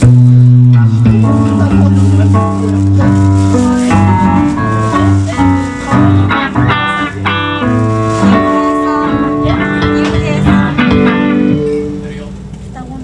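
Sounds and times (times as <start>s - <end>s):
live rock band playing: 0.0s - 12.5s.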